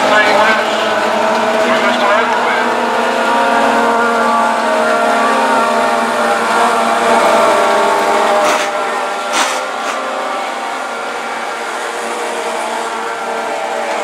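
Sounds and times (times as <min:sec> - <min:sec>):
engine rasp: 0:00.0 - 0:14.0
race car engines droning: 0:00.0 - 0:14.0.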